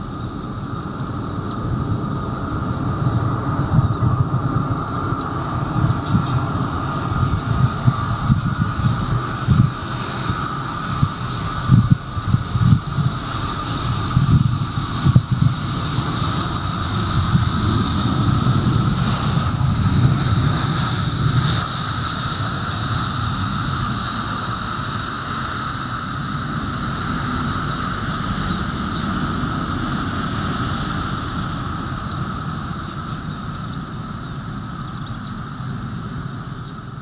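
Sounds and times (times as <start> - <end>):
deep rumble: 0.0 - 37.0
jet engines whining: 0.0 - 37.0.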